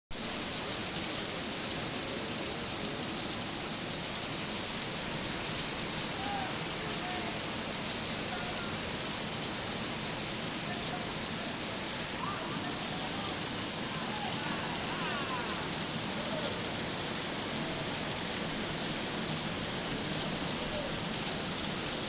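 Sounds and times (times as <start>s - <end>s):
heavy rain falling: 0.1s - 22.0s.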